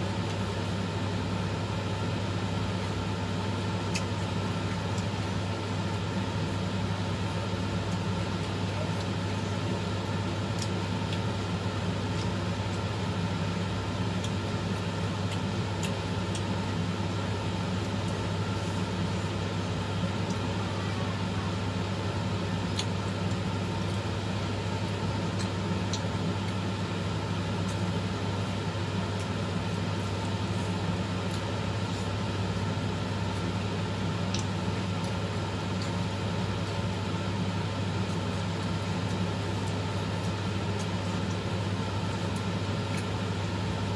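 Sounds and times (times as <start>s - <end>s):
appliance electrical hum: 0.0s - 43.9s.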